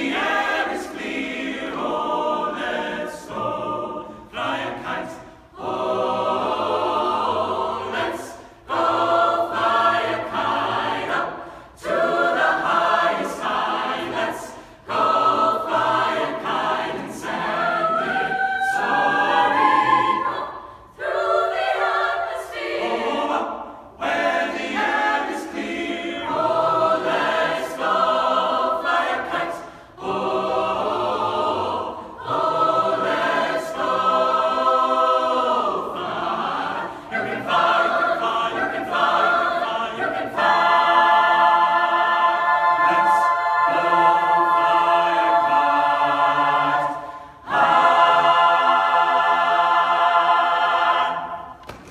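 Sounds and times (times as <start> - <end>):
choir singing in harmony: 0.0 - 51.9.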